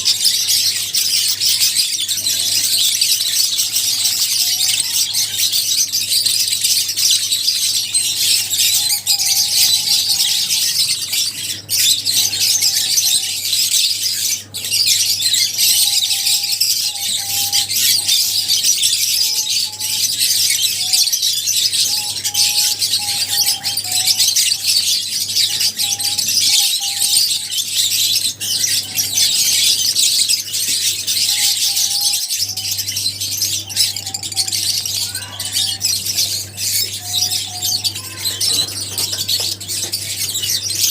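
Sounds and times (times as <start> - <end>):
birds chattering and chirping: 0.0 - 40.9.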